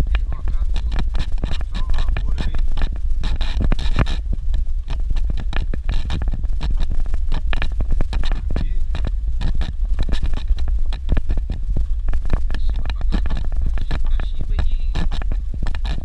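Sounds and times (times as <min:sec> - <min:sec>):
knocks and rattles: 0:00.0 - 0:16.0
vehicle rumbling on dirt road: 0:00.0 - 0:16.0.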